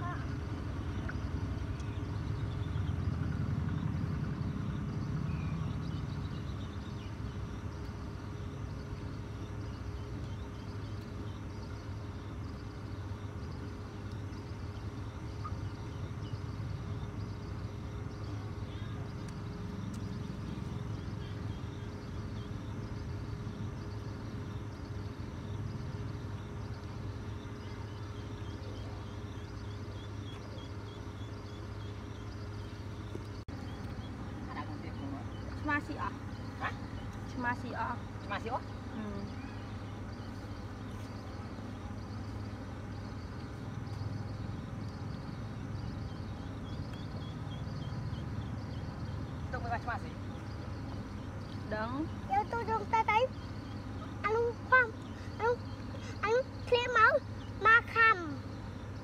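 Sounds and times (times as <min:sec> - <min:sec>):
faint continuous hum: 0:00.0 - 0:59.0.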